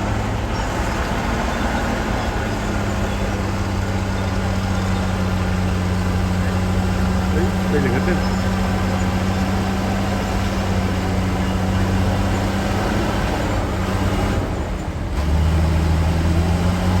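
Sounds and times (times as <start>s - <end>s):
heavy diesel machinery engine: 0.0s - 17.0s.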